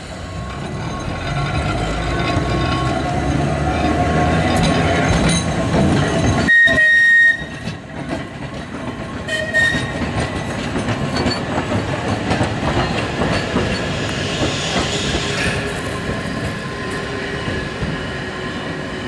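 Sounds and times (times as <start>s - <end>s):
tram wheels clattering on rails: 0.0s - 19.0s.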